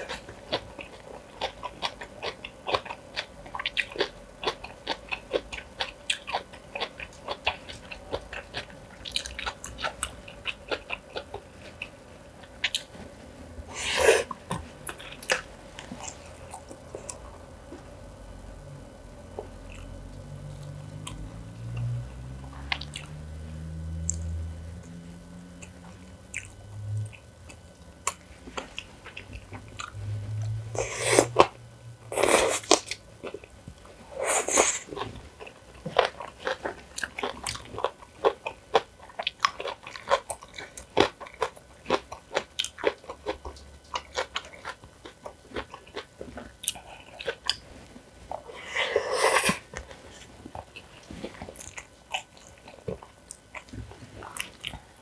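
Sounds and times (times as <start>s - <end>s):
person chewing and crunching food: 0.0s - 18.0s, 19.3s - 55.0s.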